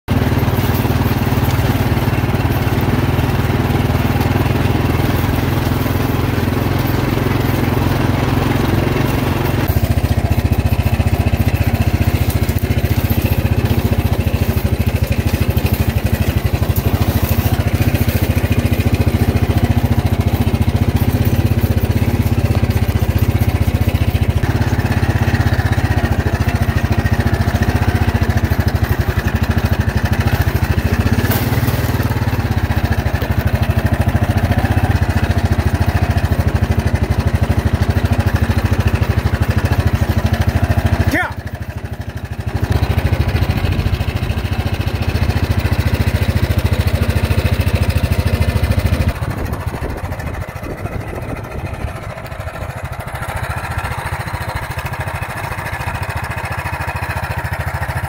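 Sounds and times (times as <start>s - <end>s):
quad bike engine running: 0.1s - 58.0s.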